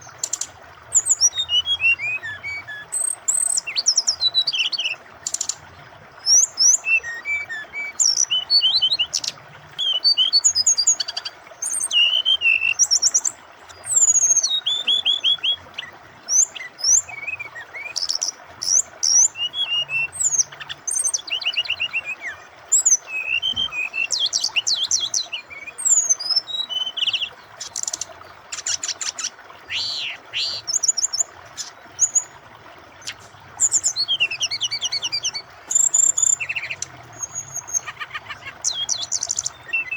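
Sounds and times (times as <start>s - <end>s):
bird singing whistles and trills: 0.0s - 5.6s, 6.2s - 32.3s, 33.0s - 39.9s
flowing water: 0.0s - 39.9s.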